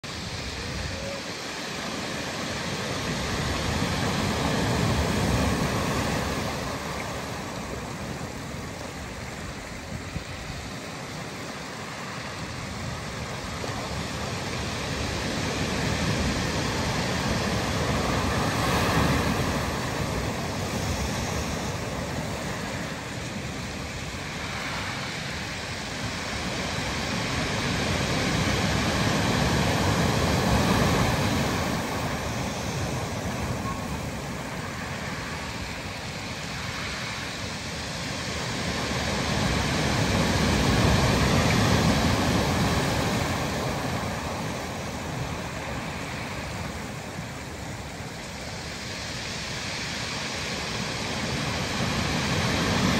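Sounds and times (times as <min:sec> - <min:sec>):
surf washing over pebble beach: 0:00.0 - 0:52.9.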